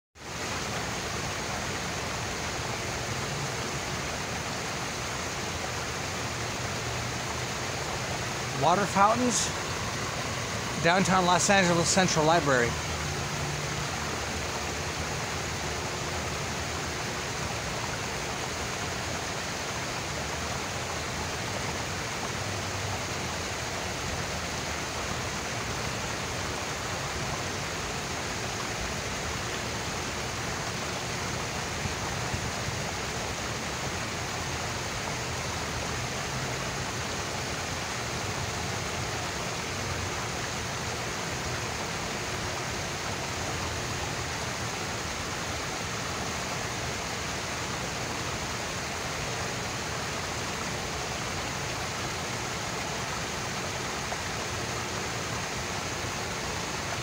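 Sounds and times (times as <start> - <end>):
fountain water splashing: 0.2 - 57.0.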